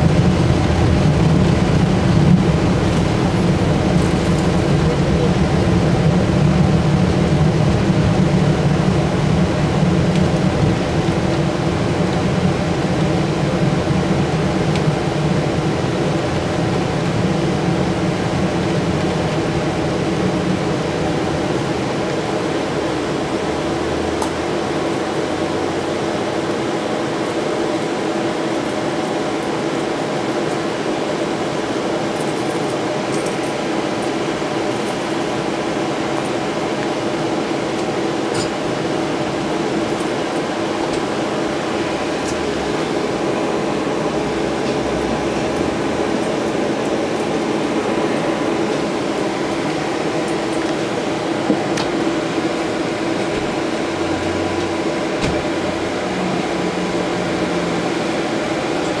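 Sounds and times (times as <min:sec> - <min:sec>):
tram cabin hum: 0:00.0 - 0:59.0.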